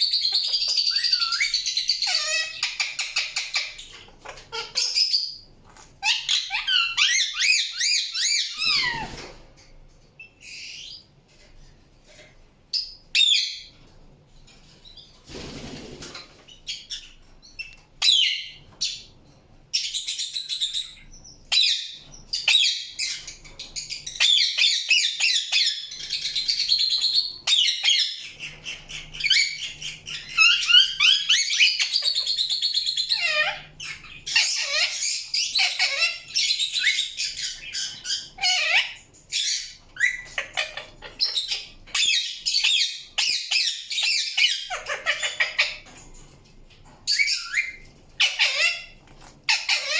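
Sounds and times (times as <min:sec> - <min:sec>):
parakeet chirping: 0:00.0 - 0:09.2, 0:10.2 - 0:11.1, 0:12.7 - 0:13.7, 0:16.5 - 0:19.1, 0:19.7 - 0:46.0, 0:47.1 - 0:49.9.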